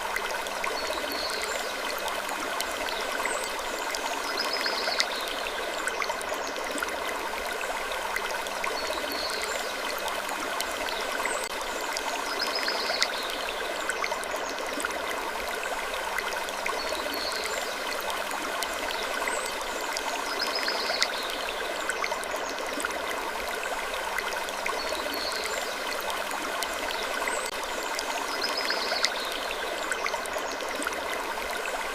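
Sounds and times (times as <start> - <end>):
small clicks and drips: 0.0 - 31.9
trickling water with crackles: 0.0 - 31.9.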